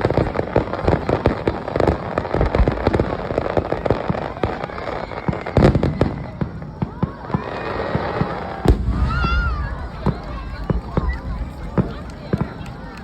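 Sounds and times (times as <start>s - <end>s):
fireworks bangs and crackling pops: 0.0s - 13.0s
fireworks low booms: 0.0s - 13.0s.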